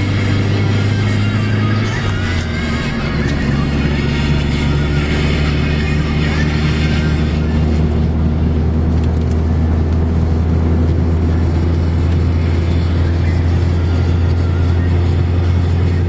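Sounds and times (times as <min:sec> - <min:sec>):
car engine and tyres droning: 0:00.0 - 0:16.0.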